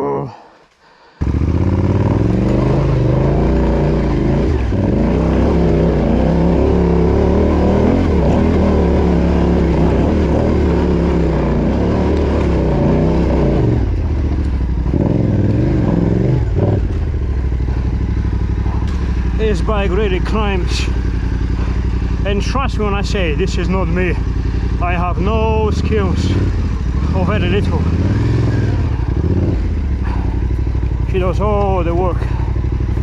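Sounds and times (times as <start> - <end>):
motorcycle engine revving: 1.2 - 33.0.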